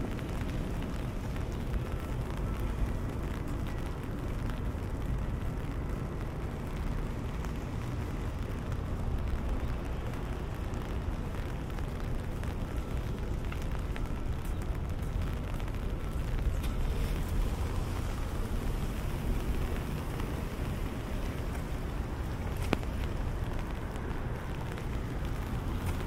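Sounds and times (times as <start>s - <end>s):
rain ticking on umbrella: 0.0s - 26.0s.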